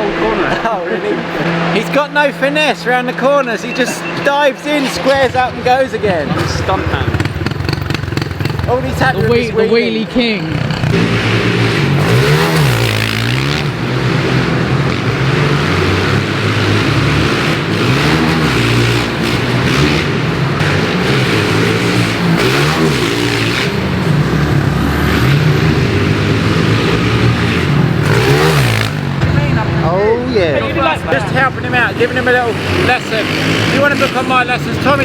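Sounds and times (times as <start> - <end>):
pit bike engine revving: 0.0 - 35.0.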